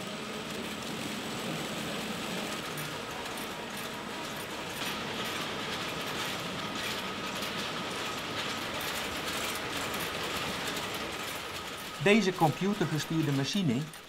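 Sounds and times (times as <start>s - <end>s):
machine clattering: 0.1s - 14.0s.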